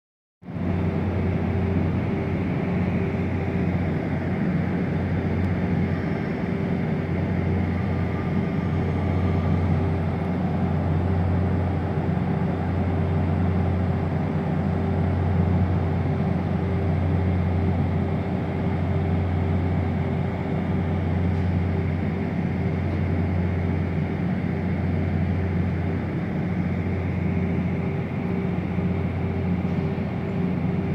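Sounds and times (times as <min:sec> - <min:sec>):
train idling hum: 0:00.4 - 0:30.9.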